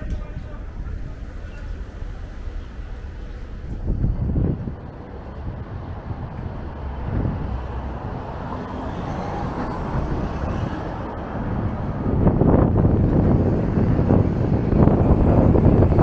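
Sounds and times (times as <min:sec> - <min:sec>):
gusty wind buffeting microphone: 0:00.0 - 0:16.0
street traffic noise: 0:00.0 - 0:16.0.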